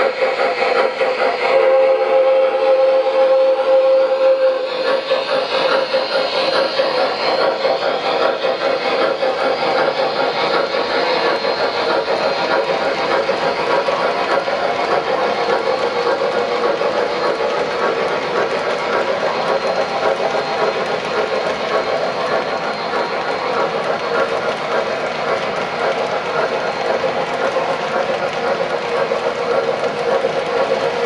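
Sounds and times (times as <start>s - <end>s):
model train wheels clattering: 0.0s - 31.0s.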